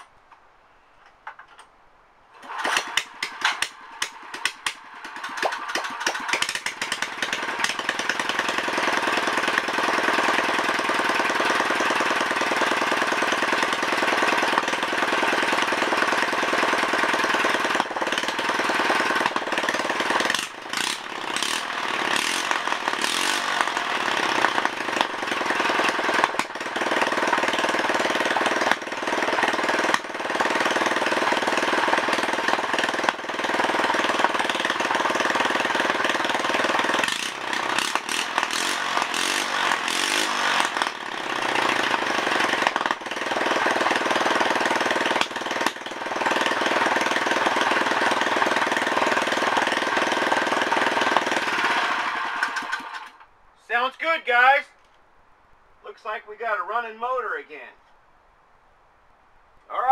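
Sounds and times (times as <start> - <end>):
single-cylinder engine running loud: 2.4 - 53.3.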